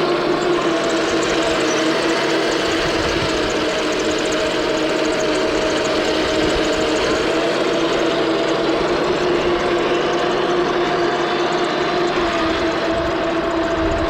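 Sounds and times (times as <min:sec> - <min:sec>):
toy tank mechanical hum: 0:00.0 - 0:14.0.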